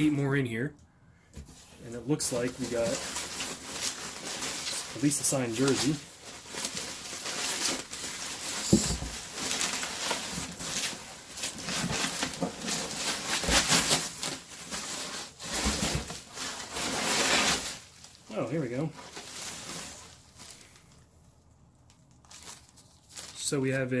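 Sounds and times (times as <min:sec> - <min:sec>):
plastic packaging crinkling: 0:01.6 - 0:21.1, 0:21.8 - 0:23.9.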